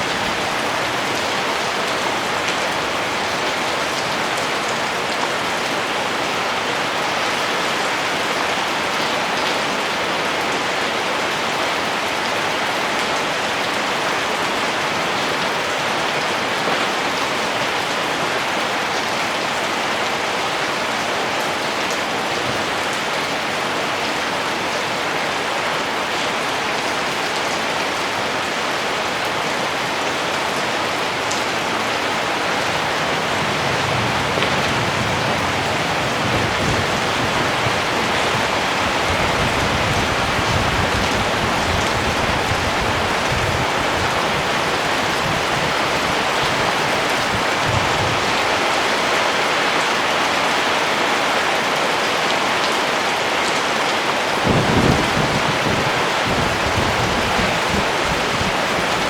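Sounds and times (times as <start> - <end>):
dense rainfall: 0.0 - 59.0.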